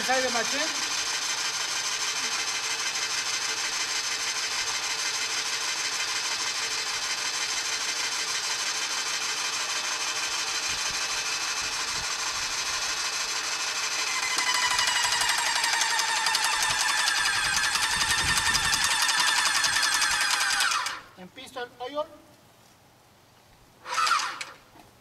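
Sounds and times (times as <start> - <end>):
paint sprayer pump hissing: 0.0 - 21.2, 23.8 - 24.6.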